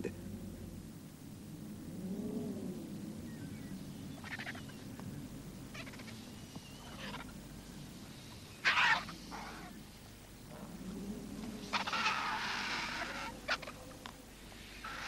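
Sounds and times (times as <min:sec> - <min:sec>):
low steady rumble: 0:00.0 - 0:15.0
vultures calling: 0:01.8 - 0:15.0.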